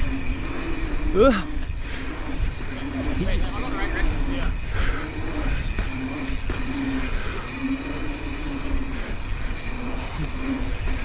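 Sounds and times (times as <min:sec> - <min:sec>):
bike hub buzzing: 0:00.0 - 0:11.0
bike tyre noise: 0:00.0 - 0:11.0
wind rumble on microphone: 0:00.0 - 0:11.0.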